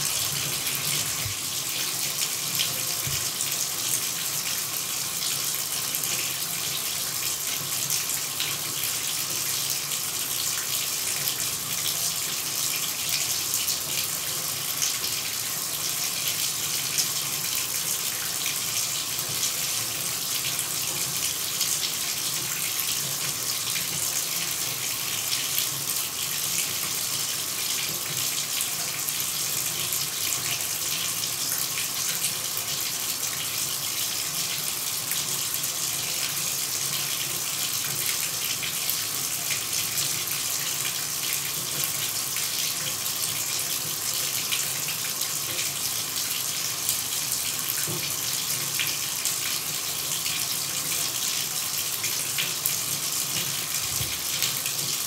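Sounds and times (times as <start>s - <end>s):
shower running: 0.0s - 55.0s.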